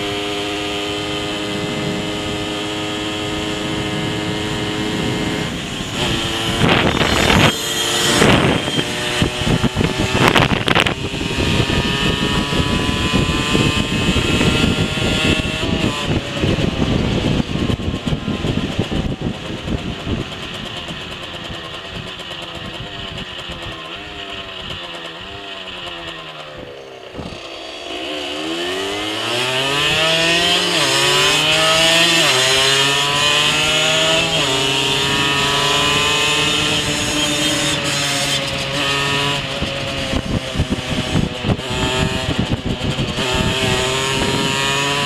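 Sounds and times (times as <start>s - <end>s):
wind rushing over microphone: 0.0s - 23.8s, 26.0s - 27.5s, 28.4s - 45.0s
moped engine running: 0.0s - 45.0s.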